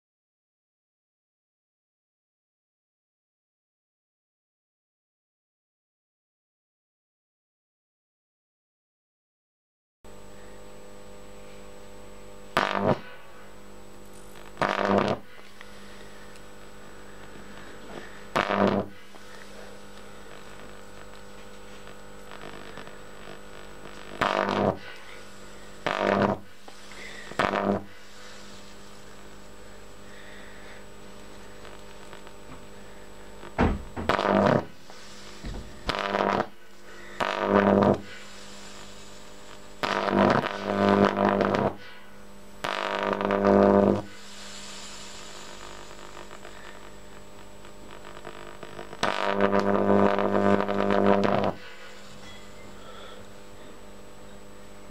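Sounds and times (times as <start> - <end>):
electric arc buzzing: 10.1 - 54.9
low steady hum: 10.1 - 54.9.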